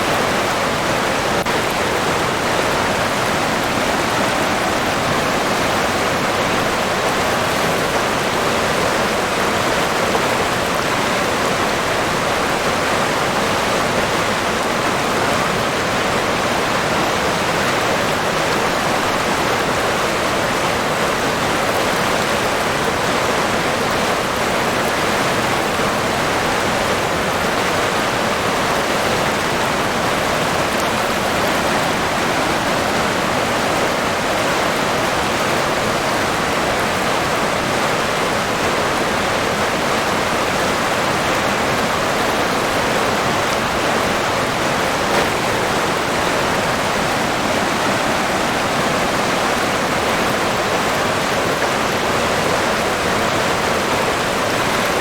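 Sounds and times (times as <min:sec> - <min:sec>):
river water rushing and splashing: 0:00.0 - 0:55.0.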